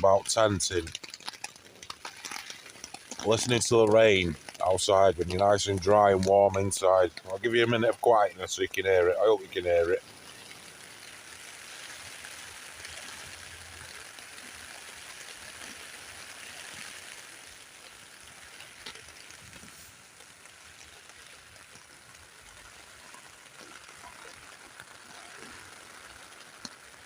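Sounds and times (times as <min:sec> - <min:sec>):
rain falling on a tent: 0:00.0 - 0:27.0.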